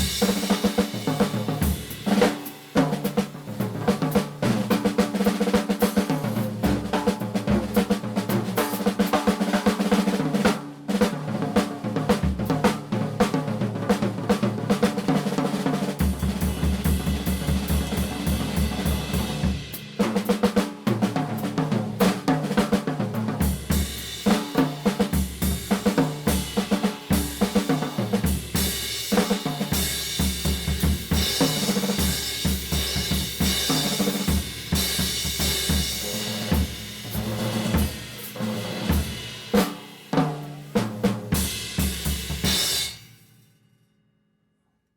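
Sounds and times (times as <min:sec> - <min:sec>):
drum kit played hard: 0:00.0 - 0:43.4.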